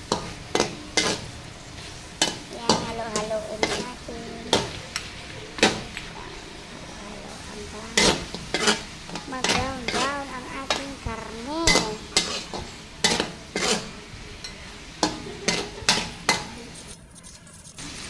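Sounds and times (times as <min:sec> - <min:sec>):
meat sizzling in a wok: 0:00.0 - 0:17.1, 0:17.7 - 0:18.0
spatula scraping and clanking wok: 0:00.0 - 0:18.0.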